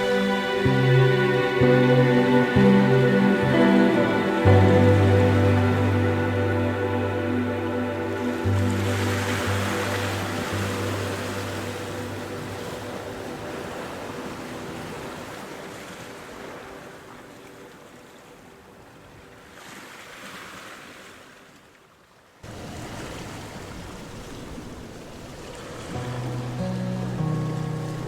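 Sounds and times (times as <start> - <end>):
ocean surf washing in: 0.0 - 17.9, 22.4 - 28.0.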